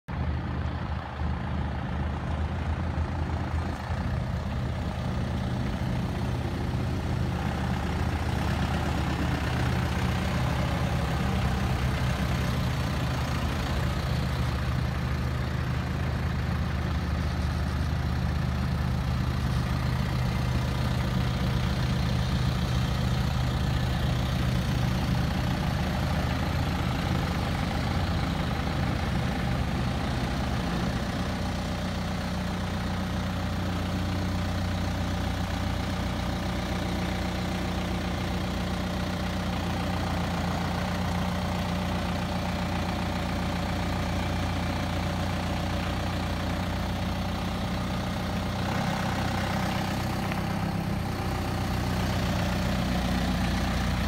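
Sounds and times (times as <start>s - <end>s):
minibus engine running at low revs: 0.0s - 54.0s.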